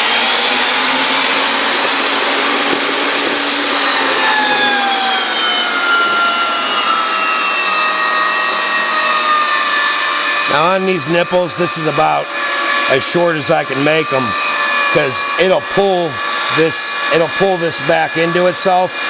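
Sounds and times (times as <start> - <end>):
pipe threading machine whining: 0.0 - 19.0.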